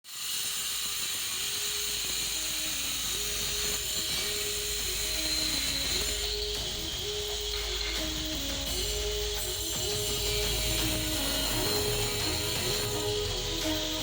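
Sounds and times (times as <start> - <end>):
high-pitched whine and hiss: 0.1 - 14.0.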